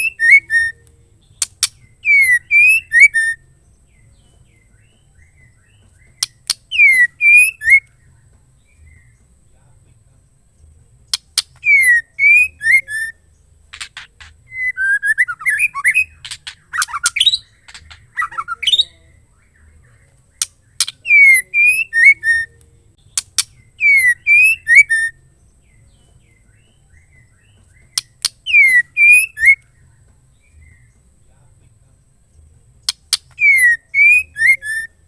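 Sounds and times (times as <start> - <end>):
bird calling with clicks and whistles: 0.0 - 3.6, 4.2 - 8.0, 11.1 - 25.2, 26.0 - 31.0, 32.8 - 35.0.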